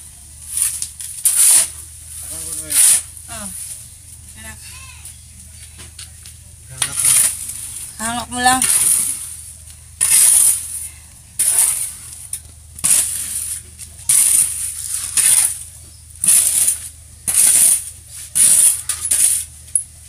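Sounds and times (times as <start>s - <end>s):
shovel scraping concrete floor: 0.4s - 3.8s, 6.8s - 19.9s.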